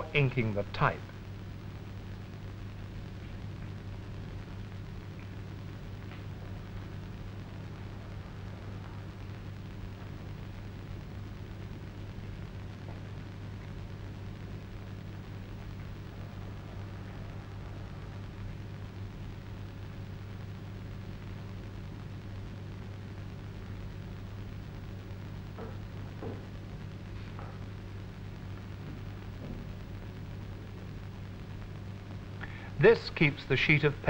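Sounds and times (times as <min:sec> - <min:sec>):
old film soundtrack hum and hiss: 0:00.0 - 0:34.0.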